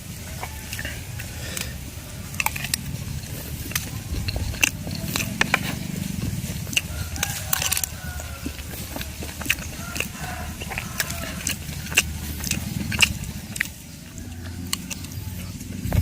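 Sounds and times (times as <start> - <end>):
low hum: 0.0 - 16.0
person chewing crunchy food: 0.0 - 16.0.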